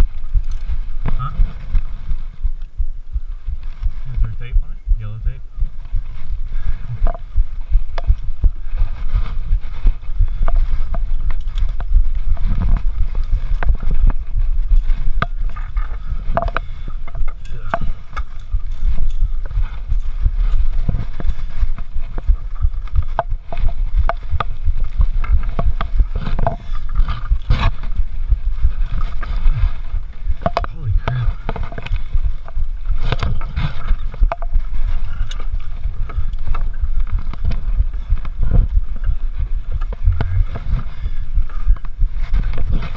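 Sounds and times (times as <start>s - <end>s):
steady low rumble: 0.0s - 42.9s.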